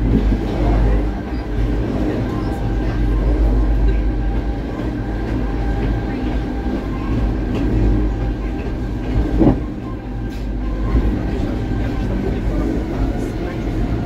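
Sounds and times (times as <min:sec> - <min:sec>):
train rumble and hum: 0:00.0 - 0:14.0.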